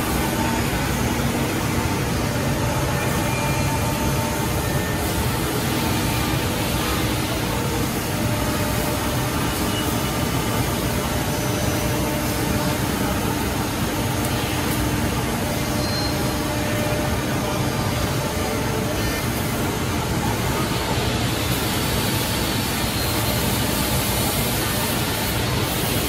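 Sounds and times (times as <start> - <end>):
woodworking machinery humming: 0.0 - 26.0.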